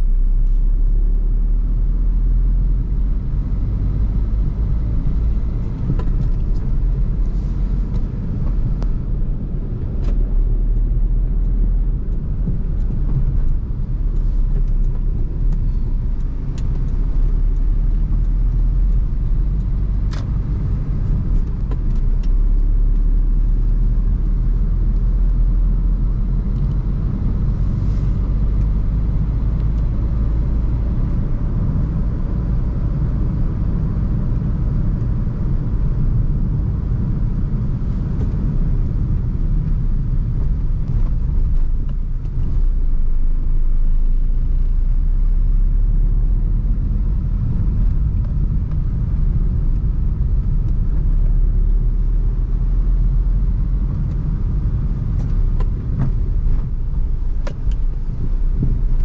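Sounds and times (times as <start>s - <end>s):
car engine rumble: 0.0s - 59.0s
road noise: 0.0s - 59.0s.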